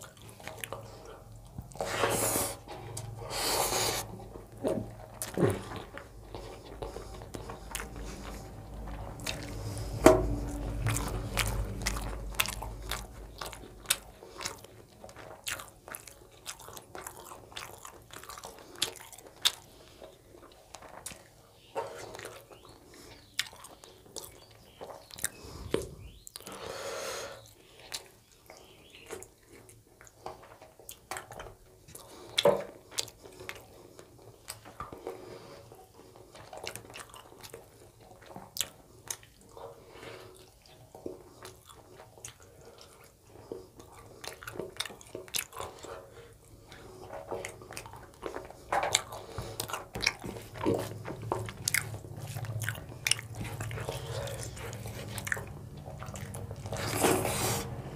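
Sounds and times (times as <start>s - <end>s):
chewing and wet mouth clicks: 0.0s - 1.8s, 4.0s - 21.4s, 22.0s - 26.6s, 27.5s - 35.2s, 36.0s - 57.0s.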